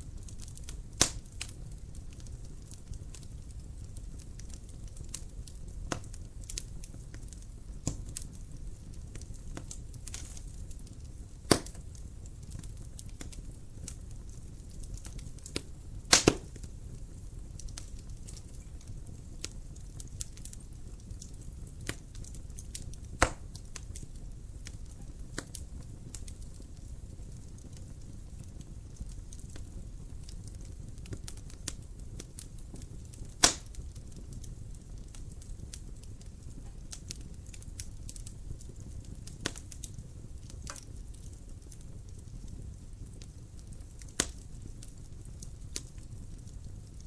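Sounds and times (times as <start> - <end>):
low rumble of flame: 0.0 - 47.0
wood fire crackling and popping: 0.0 - 47.0.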